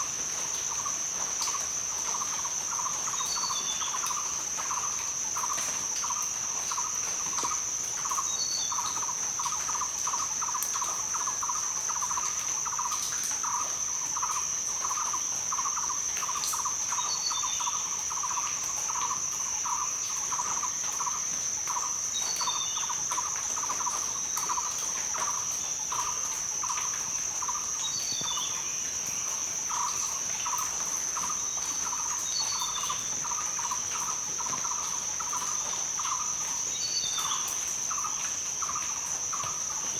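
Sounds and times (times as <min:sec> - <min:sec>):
lower pulsing insect call: 0:00.0 - 0:39.9
high-pitched insect drone: 0:00.4 - 0:39.9.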